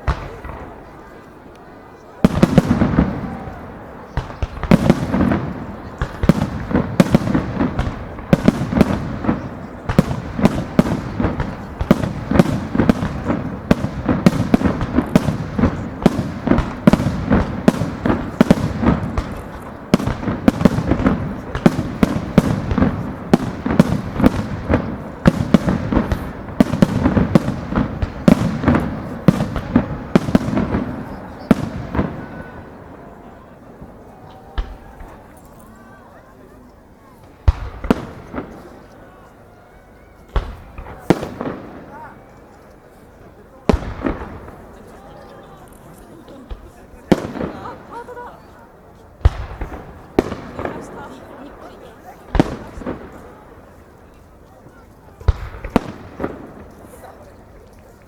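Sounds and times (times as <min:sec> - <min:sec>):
deep fireworks booms: 0:00.0 - 0:01.1, 0:02.1 - 0:35.3, 0:37.2 - 0:39.0, 0:40.3 - 0:42.3, 0:43.5 - 0:45.2, 0:46.4 - 0:54.0, 0:54.6 - 0:58.0
fireworks bursting: 0:00.0 - 0:36.2, 0:37.0 - 0:39.4, 0:40.2 - 0:58.0
fireworks crackling: 0:00.0 - 0:58.0.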